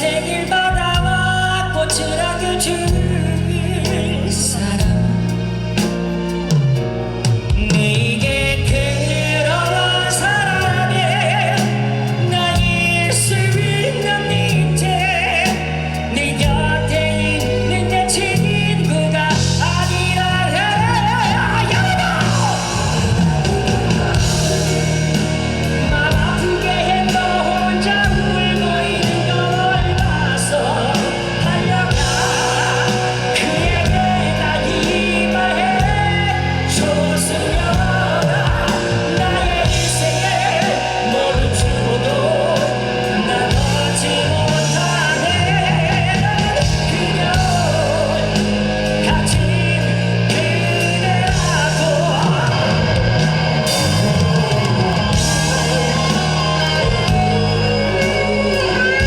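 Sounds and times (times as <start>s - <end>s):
man singing: 0.0s - 59.0s
rock band playing: 0.0s - 59.0s.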